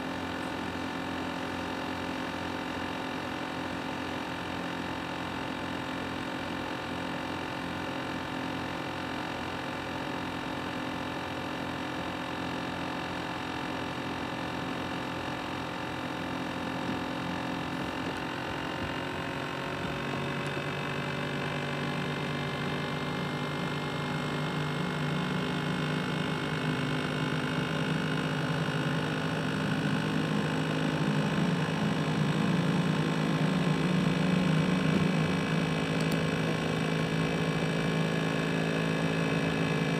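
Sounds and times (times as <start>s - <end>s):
laptop cooling fan whirring: 0.0s - 39.9s.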